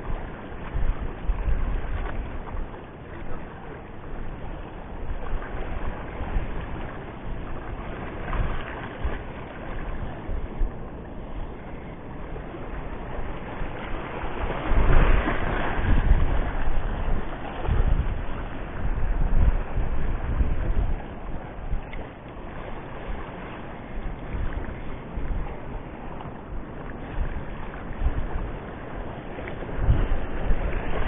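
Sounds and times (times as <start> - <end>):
sea washing: 0.0 - 31.0
wind buffeting microphone: 0.0 - 31.0.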